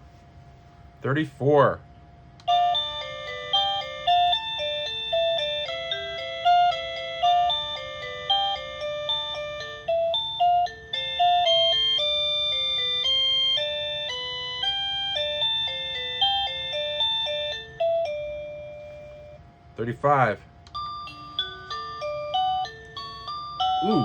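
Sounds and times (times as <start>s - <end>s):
electronic doorbell chime melody: 2.4s - 19.4s, 20.7s - 24.0s.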